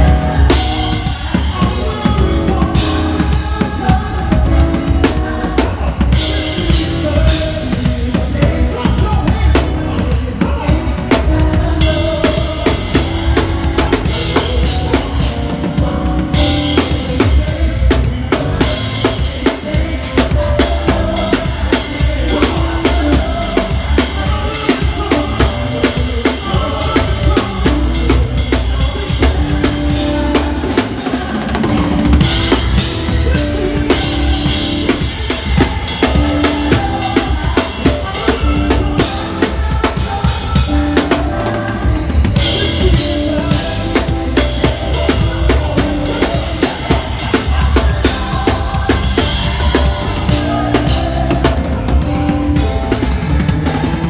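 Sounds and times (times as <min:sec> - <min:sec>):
drum kit playing a beat: 0:00.0 - 0:54.0
live band music: 0:00.0 - 0:54.0.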